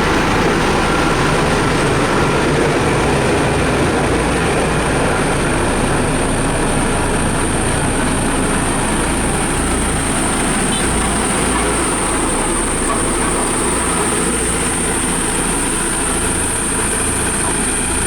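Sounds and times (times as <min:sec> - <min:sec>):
diesel machinery engine rumble: 0:00.0 - 0:18.0.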